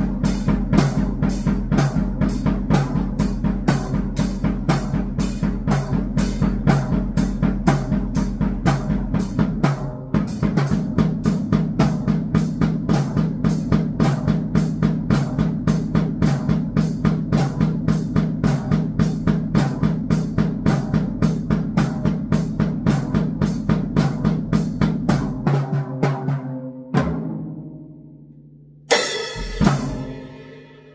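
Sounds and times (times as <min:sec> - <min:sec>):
drum kit playing fast beat: 0:00.0 - 0:25.8, 0:28.9 - 0:30.9.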